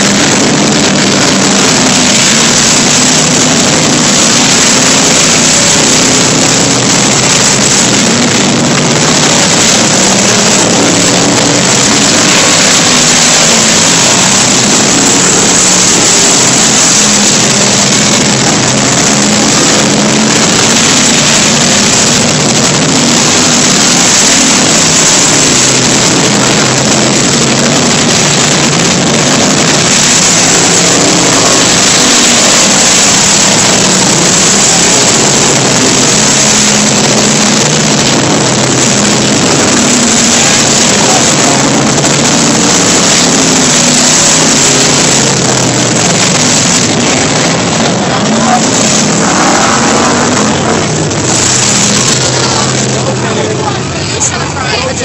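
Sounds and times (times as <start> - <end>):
race car engines: 0.0 - 55.0.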